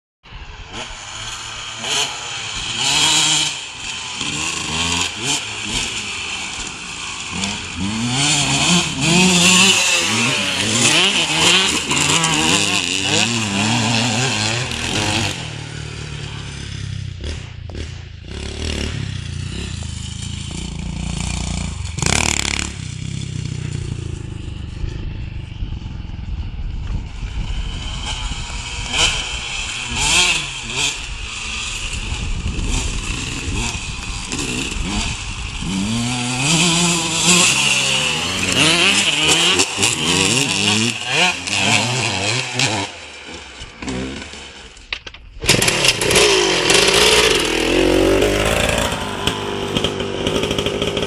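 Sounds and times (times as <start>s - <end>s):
dirt bike engines revving: 0.4s - 51.0s.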